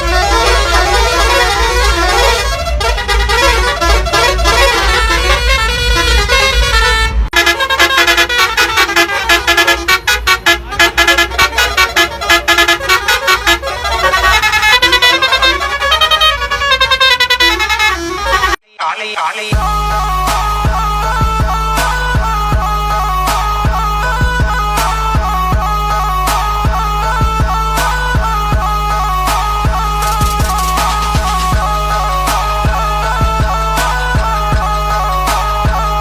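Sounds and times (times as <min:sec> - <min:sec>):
bus musical air horns: 0:00.0 - 0:18.7, 0:19.6 - 0:36.0.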